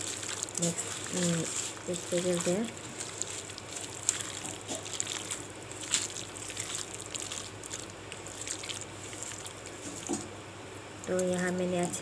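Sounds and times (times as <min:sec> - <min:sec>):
hand squelching wet meat: 0:00.0 - 0:10.2.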